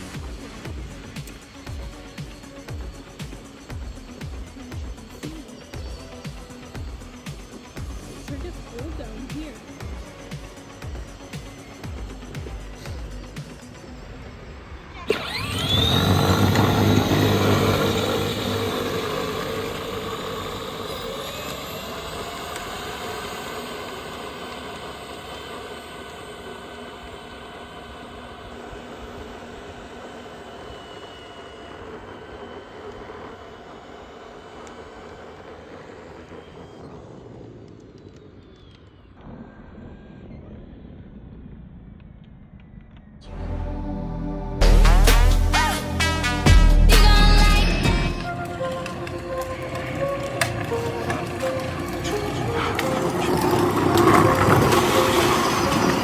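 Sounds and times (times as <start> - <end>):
electric motor whining: 0.0 - 40.4, 44.6 - 56.0.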